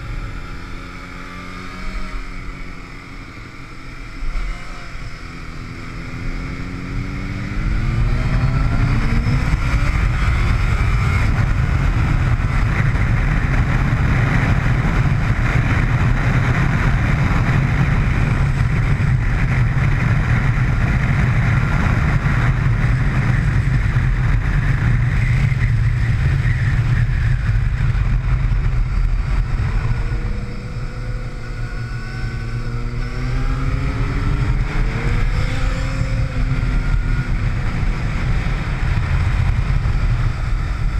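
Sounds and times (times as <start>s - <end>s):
heavy wind noise: 0.0s - 40.9s
motorcycle engine accelerating: 0.0s - 40.9s.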